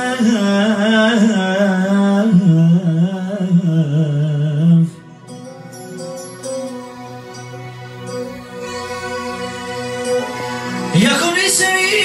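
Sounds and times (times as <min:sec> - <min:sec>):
keyboard accompaniment chords: 0:00.0 - 0:12.0
keyboard lead melody: 0:00.0 - 0:12.0.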